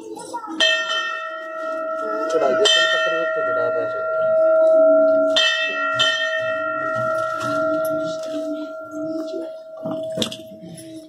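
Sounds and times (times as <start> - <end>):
metal bell ringing: 0.0 - 11.0.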